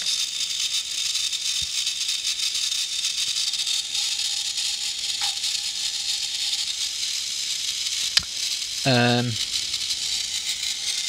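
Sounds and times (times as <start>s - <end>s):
camera clockwork whirring: 0.0s - 11.0s.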